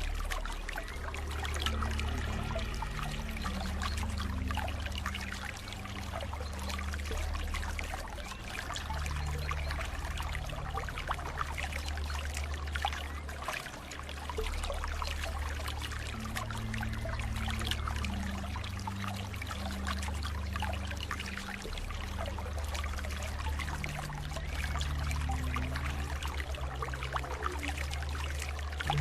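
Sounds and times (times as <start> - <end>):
soft background music: 0.0 - 29.0
water trickling and splashing: 0.0 - 29.0.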